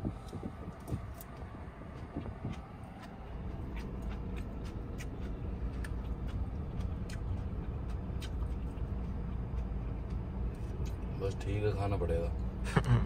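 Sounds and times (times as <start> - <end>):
low rumble inside car: 0.0 - 13.0.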